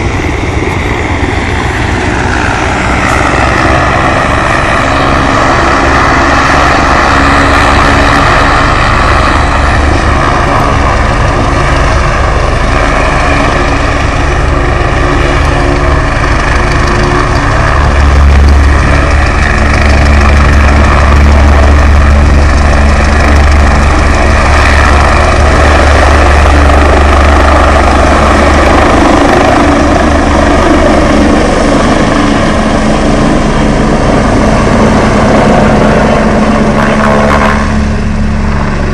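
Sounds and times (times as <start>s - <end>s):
helicopter rotor drone: 0.0s - 38.9s
helicopter turbine whine: 0.0s - 38.9s.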